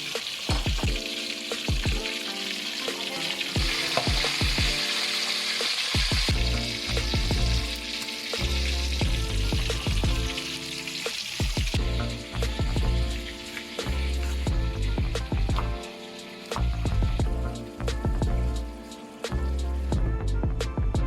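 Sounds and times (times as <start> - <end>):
food sizzling in oil: 0.0 - 20.0
background music with bass beat: 0.1 - 2.2, 3.6 - 4.9, 5.9 - 21.0.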